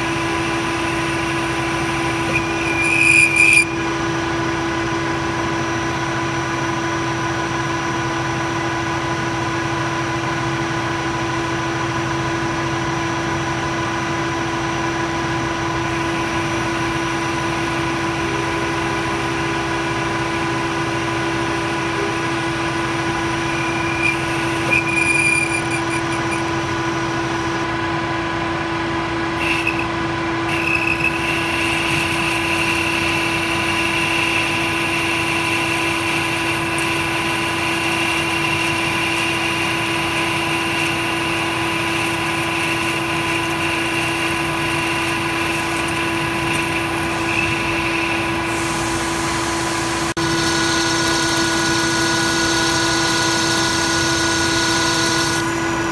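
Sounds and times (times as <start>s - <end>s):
cutting tool whine: 0.0s - 7.2s, 15.7s - 55.9s
metal lathe motor hum: 0.0s - 11.0s, 12.6s - 55.9s.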